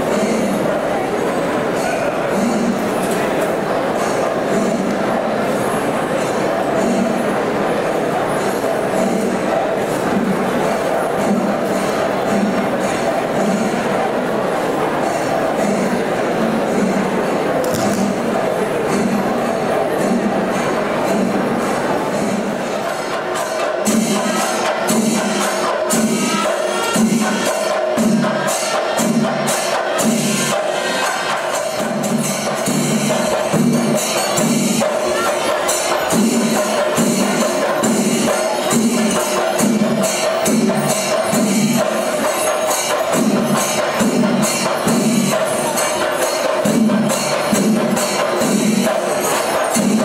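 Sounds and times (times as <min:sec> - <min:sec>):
fast cymbal clashes: 0:00.0 - 0:50.0.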